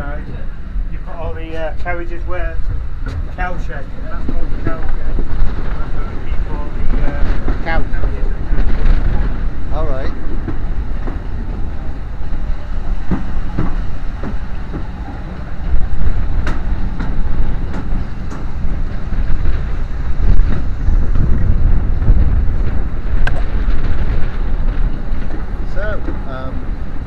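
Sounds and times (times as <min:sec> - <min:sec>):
train rumbling: 0:00.0 - 0:27.0
wind buffeting microphone: 0:00.0 - 0:27.0.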